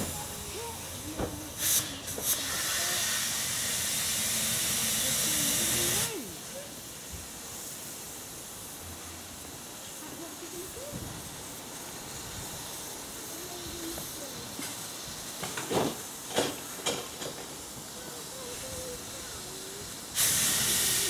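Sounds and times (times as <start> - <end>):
steam hissing from locomotive: 0.0 - 21.0.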